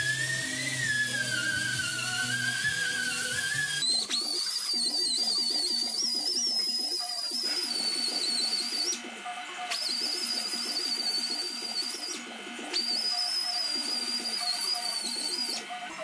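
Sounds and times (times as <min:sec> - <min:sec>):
die grinder whining: 0:00.0 - 0:16.0.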